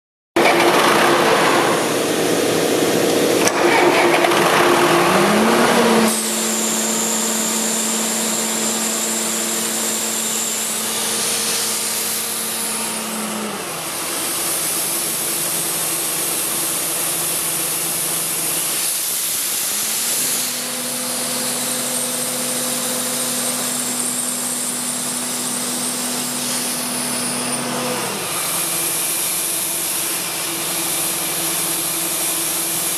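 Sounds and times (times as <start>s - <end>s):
diesel air compressor running: 0.4s - 32.9s.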